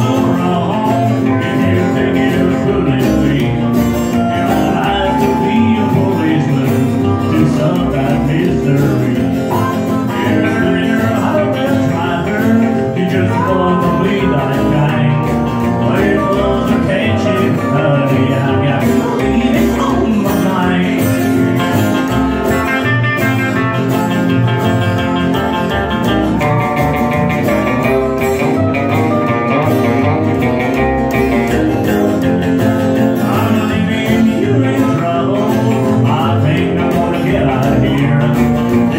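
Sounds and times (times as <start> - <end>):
rockabilly band playing live: 0.0 - 38.9
steel guitar sliding notes: 0.0 - 38.9.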